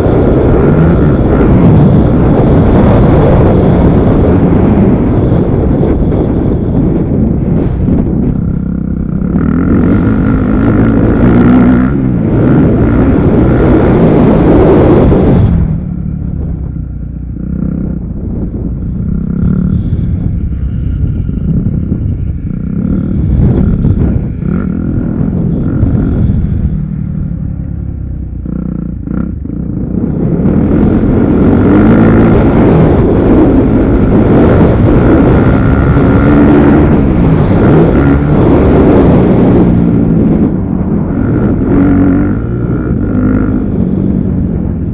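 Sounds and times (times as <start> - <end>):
dirt bike engines running: 0.0 - 44.9.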